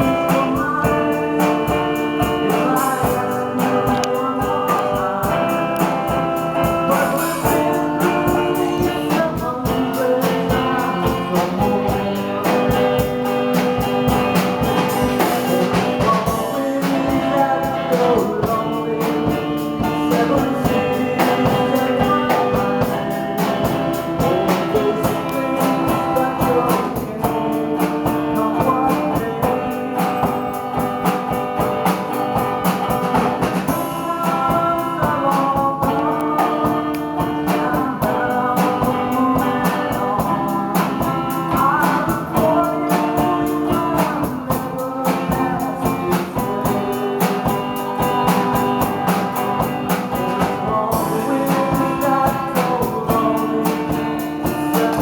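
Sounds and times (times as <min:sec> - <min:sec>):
acoustic guitar strumming: 0:00.0 - 0:55.0
voices singing along: 0:00.0 - 0:55.0.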